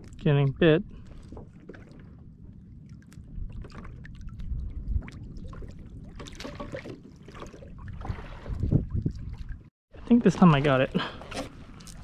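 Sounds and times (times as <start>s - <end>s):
wind rumble on microphone: 0.0s - 9.7s
water splashing against kayak hull: 1.0s - 12.0s.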